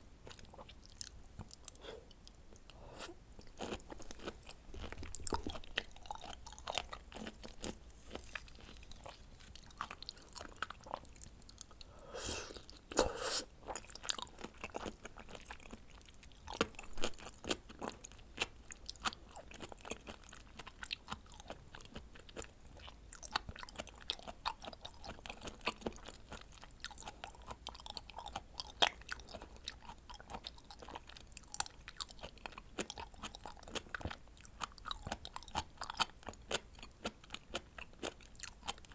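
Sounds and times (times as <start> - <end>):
wet chewing and mouth clicks: 3.4 - 11.9, 13.6 - 38.9.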